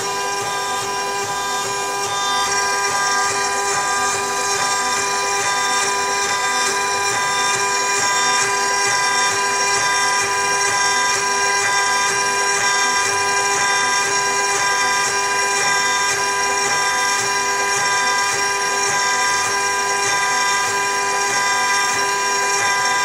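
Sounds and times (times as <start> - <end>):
router motors whining: 0.0 - 23.0.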